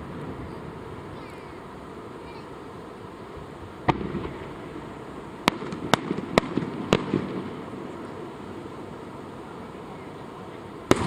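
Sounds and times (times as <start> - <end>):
fireworks shells bursting: 0.0 - 11.0.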